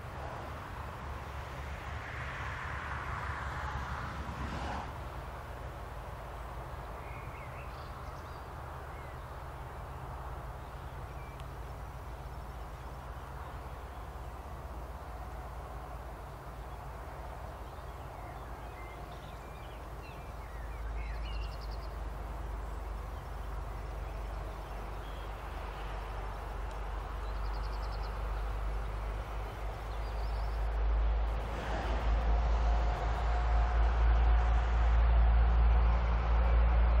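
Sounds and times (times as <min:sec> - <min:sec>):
approaching train rumble: 0:00.0 - 0:37.0
locomotive hum: 0:00.0 - 0:37.0.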